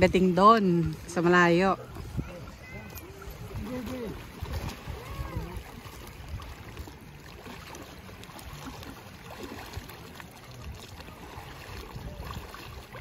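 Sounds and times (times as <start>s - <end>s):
water lapping gently: 0.0s - 13.0s.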